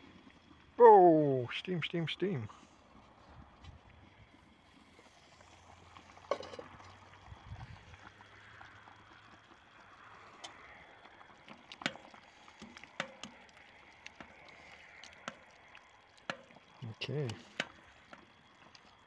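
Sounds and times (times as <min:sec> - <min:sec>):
stew bubbling: 0:00.0 - 0:19.0.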